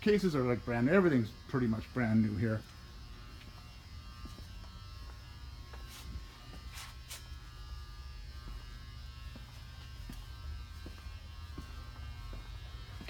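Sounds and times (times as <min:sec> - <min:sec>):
electrical buzz: 0:00.0 - 0:13.0
low hum: 0:00.0 - 0:13.0.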